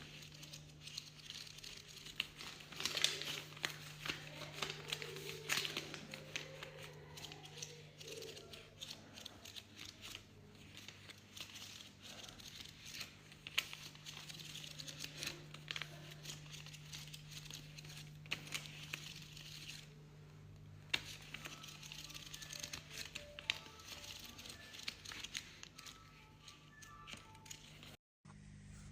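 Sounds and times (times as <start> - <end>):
banknotes rustling and snapping: 0.0 - 19.9, 20.5 - 28.0
low steady hum: 0.0 - 28.9.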